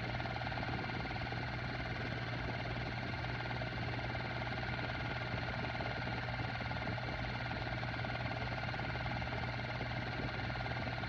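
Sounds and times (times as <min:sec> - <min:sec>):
film projector running: 0:00.0 - 0:11.0.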